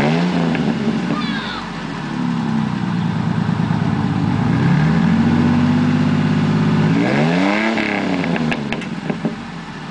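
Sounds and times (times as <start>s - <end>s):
engine exhaust revving: 0.0s - 9.9s.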